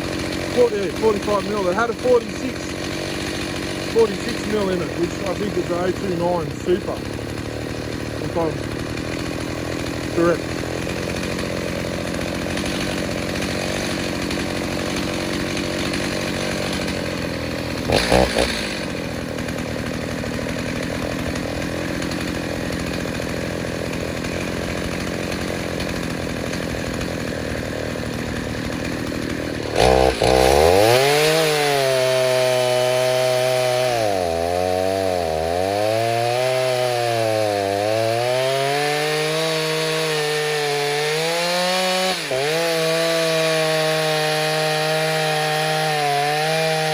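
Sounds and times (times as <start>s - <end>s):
chainsaw cutting wood: 0.0s - 46.9s
chainsaw running: 0.0s - 46.9s.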